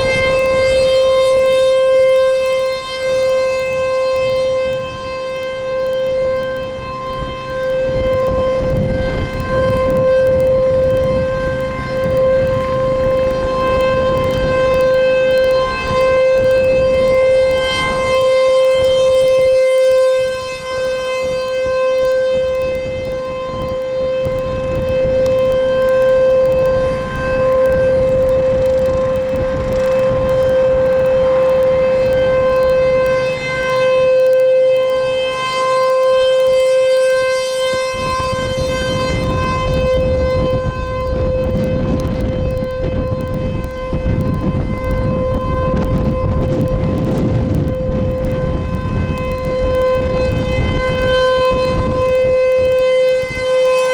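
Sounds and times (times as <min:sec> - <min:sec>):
rotating warning siren: 0:00.0 - 0:53.9.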